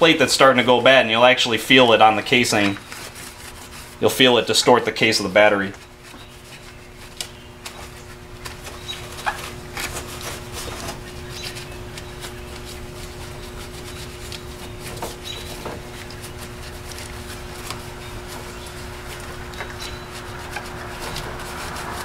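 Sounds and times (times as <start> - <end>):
towel scrubbing plastic: 0.0 - 22.0.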